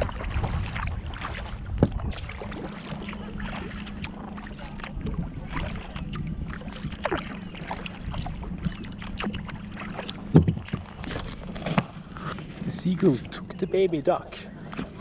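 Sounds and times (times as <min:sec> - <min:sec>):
paddle splashing water: 0:00.0 - 0:15.0.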